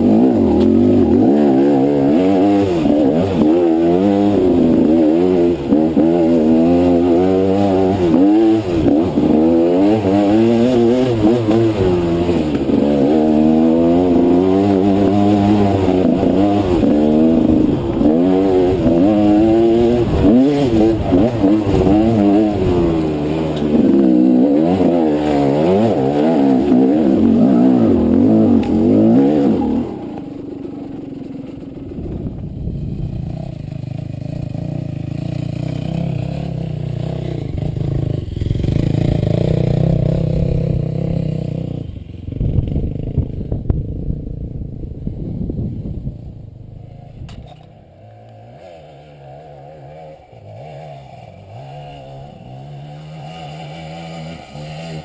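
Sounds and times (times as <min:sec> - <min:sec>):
dirt bike engine revving: 0:00.0 - 0:43.6, 0:46.8 - 0:55.0.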